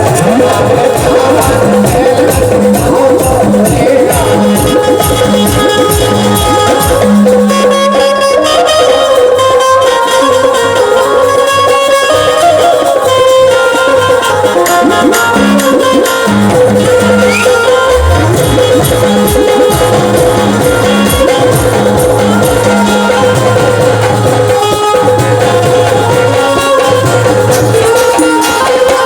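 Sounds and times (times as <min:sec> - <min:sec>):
steady drum rhythm: 0:00.0 - 0:29.0.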